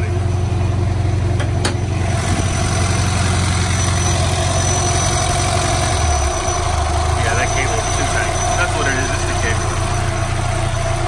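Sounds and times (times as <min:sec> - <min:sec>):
car engine idling high: 0:00.0 - 0:11.0.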